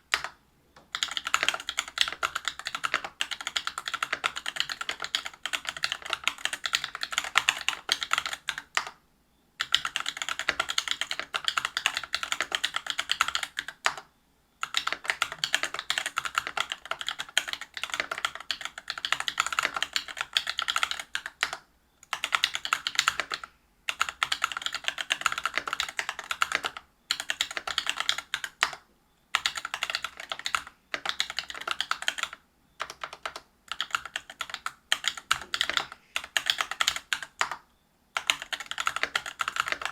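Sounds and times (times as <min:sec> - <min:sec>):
mechanical keyboard typing: 0:00.1 - 0:09.0, 0:09.6 - 0:37.6, 0:38.2 - 0:39.9.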